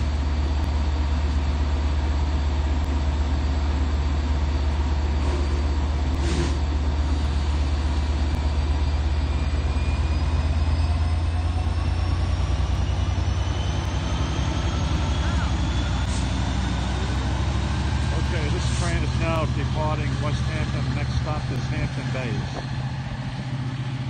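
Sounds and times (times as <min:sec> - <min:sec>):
diesel train engine droning: 0:00.0 - 0:24.0.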